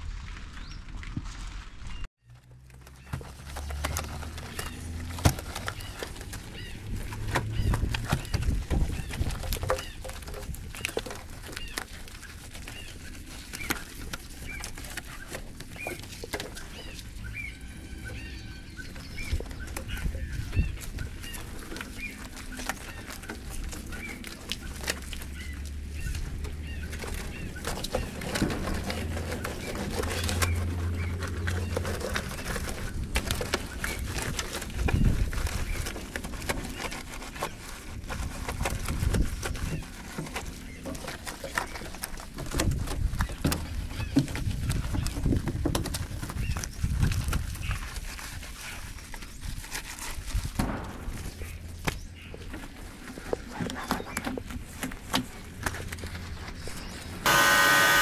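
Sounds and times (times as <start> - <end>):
birds calling: 1.8 - 50.1, 50.7 - 58.0.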